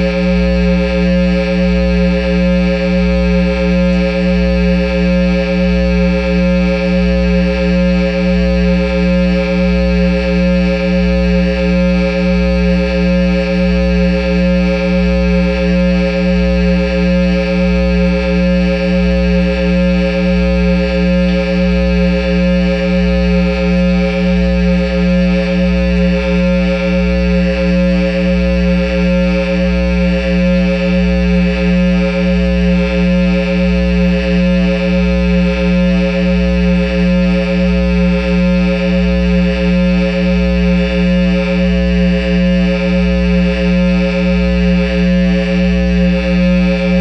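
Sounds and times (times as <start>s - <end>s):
guitar amplifier hum: 0.0s - 47.0s.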